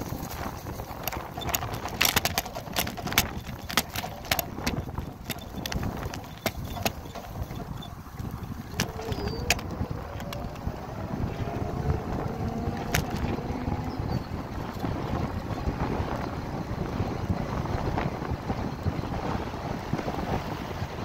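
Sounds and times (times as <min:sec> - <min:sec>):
bicycle rattling and clunking: 0:00.0 - 0:21.0
tyres rumbling: 0:00.0 - 0:21.0
wind on microphone: 0:00.0 - 0:21.0.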